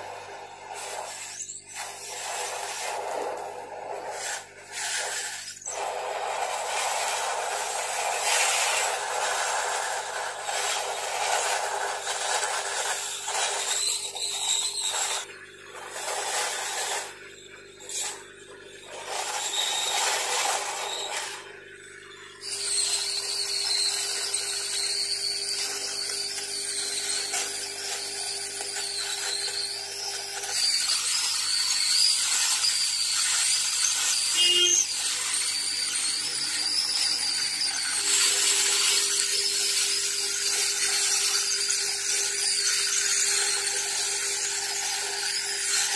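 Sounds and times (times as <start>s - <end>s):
hot-air gun fan whining: 0.0s - 45.9s.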